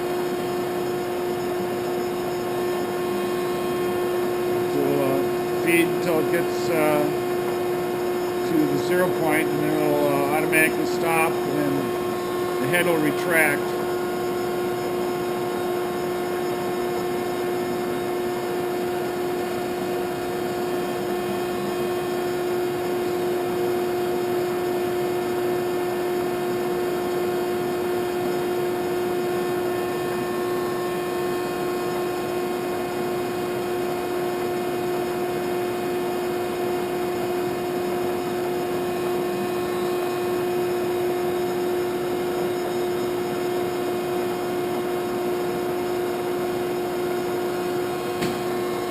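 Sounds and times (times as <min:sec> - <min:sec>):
grinder machine humming with whine: 0:00.0 - 0:48.9.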